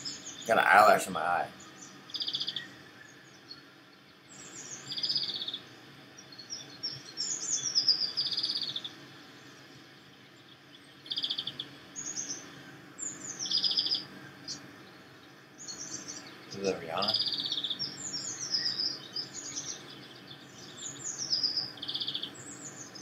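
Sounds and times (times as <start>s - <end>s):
faint steady background hiss: 0.0s - 23.0s
songbird singing: 0.0s - 23.0s.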